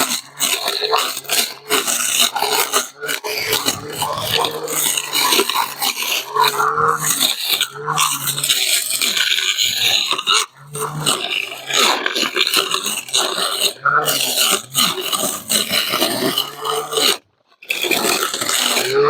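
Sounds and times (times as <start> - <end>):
brush cutter motor whirring: 0.0 - 19.0.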